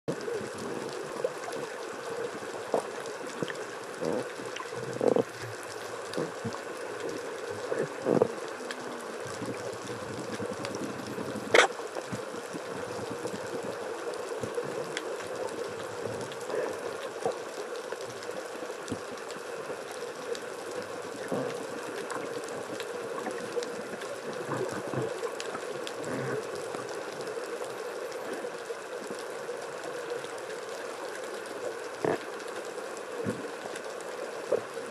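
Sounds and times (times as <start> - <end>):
muffled rush of water: 0.1 - 34.9.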